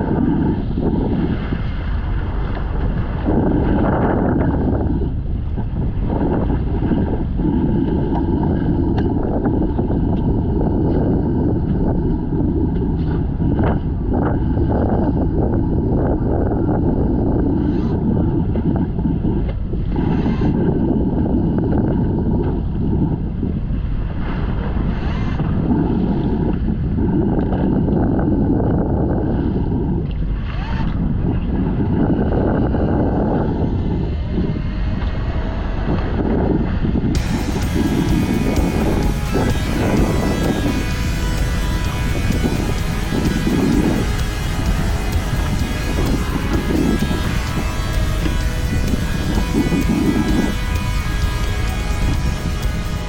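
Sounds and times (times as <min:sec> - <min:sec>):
fishing boat engine rumble: 0:00.0 - 0:17.6, 0:25.6 - 0:53.0
wind buffeting microphone: 0:00.0 - 0:53.0.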